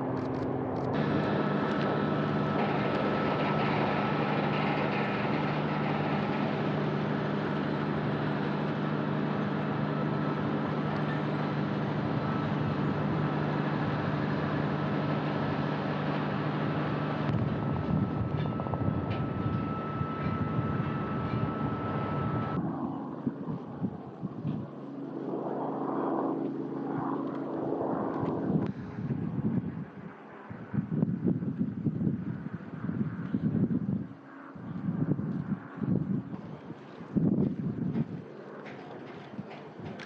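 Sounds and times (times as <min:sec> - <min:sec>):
constant high whine: 0:00.0 - 0:40.0
diesel locomotive engine hum: 0:00.0 - 0:40.0.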